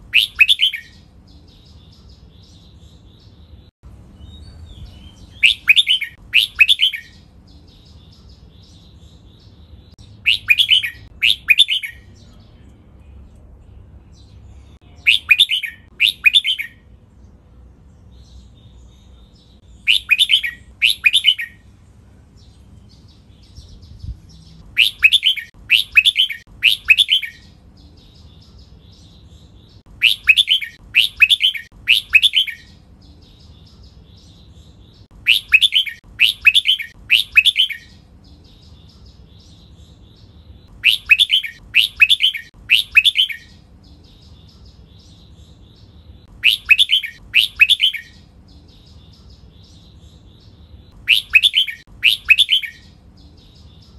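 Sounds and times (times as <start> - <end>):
bird singing clear falling notes: 0.0 - 17.0, 17.9 - 21.7, 22.3 - 53.9
faint bird twittering: 0.0 - 17.0, 17.8 - 53.9.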